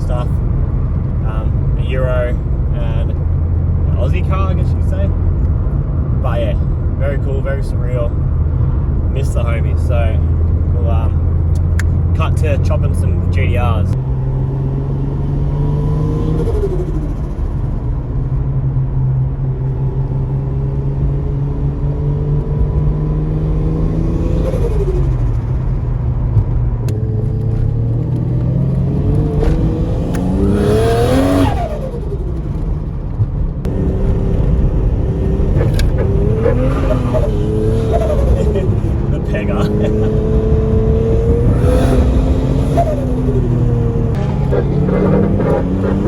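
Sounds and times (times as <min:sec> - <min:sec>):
turbocharged car engine accelerating: 0:00.0 - 0:46.0.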